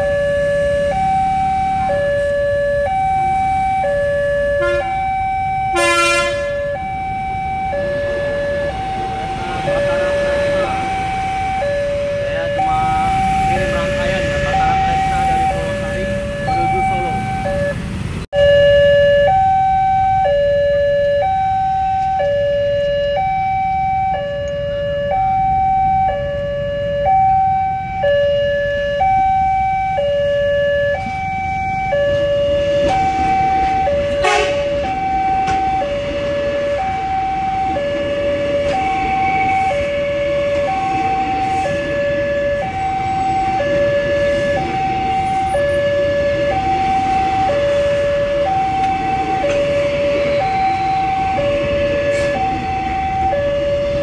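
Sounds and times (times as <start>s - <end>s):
level crossing alarm two-tone: 0.0s - 54.0s
passing train: 0.0s - 54.0s.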